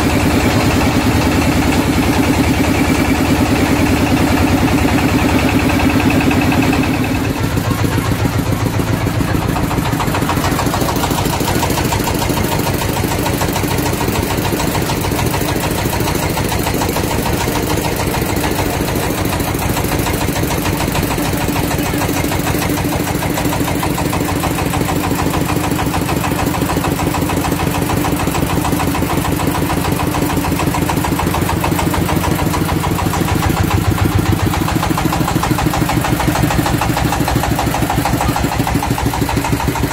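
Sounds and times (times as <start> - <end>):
boat engine chugging: 0.0 - 39.9.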